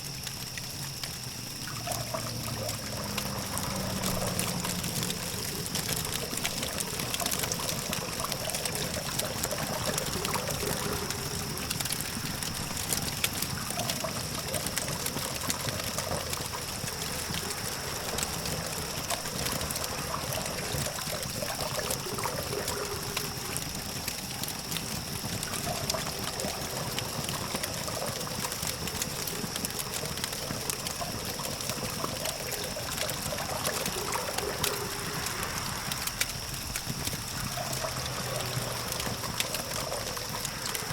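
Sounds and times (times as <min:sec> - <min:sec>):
campfire crackling: 0:00.0 - 0:40.9
distant traffic hum: 0:01.0 - 0:40.9.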